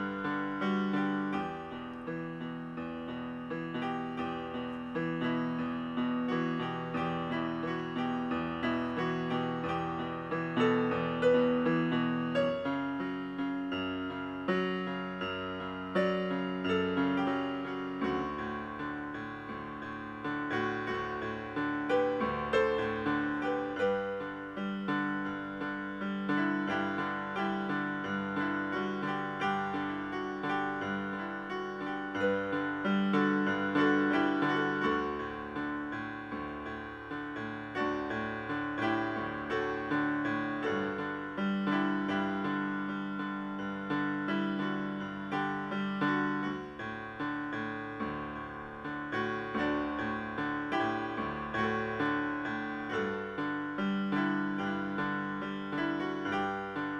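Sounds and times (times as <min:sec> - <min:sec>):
solo piano music: 0:00.0 - 0:56.9.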